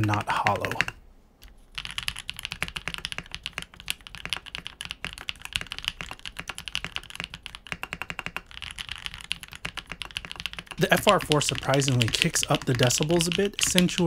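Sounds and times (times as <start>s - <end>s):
fast mechanical keyboard typing: 0.0s - 1.0s, 1.7s - 14.0s.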